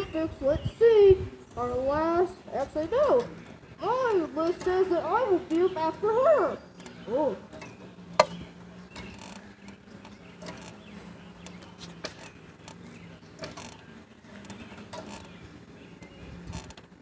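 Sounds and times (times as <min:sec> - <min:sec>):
swing chains clinking: 0:00.0 - 0:17.0.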